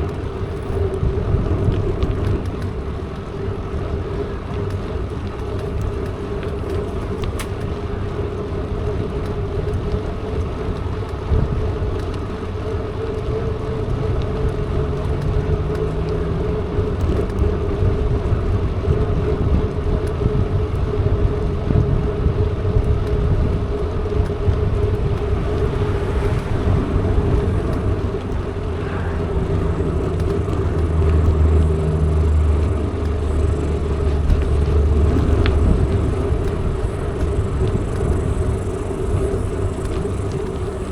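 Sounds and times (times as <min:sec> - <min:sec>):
bike tyre hum: 0:00.0 - 0:40.9
deep rumble: 0:00.0 - 0:40.9
wind on microphone: 0:00.0 - 0:40.9.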